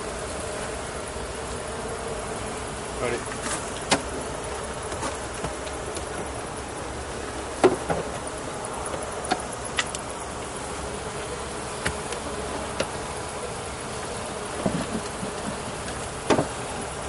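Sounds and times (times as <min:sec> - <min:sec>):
honeybees buzzing: 0:00.0 - 0:17.0
hive frames knocking: 0:03.2 - 0:17.0.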